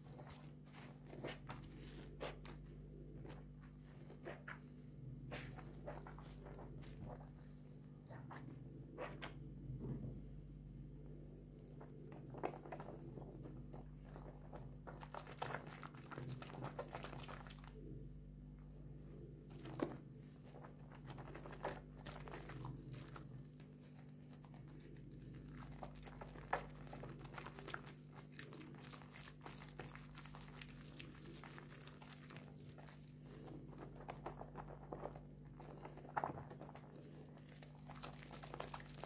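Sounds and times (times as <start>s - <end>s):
soap foam crackling: 0.0s - 9.4s, 11.8s - 17.9s, 19.5s - 39.0s.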